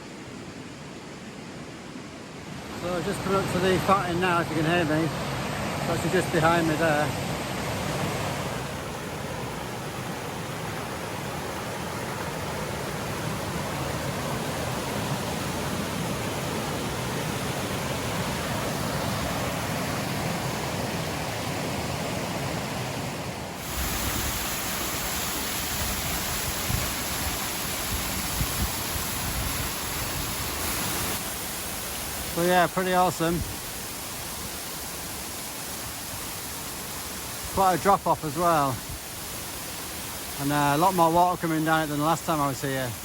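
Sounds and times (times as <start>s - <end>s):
waterfall rushing: 2.6s - 43.0s.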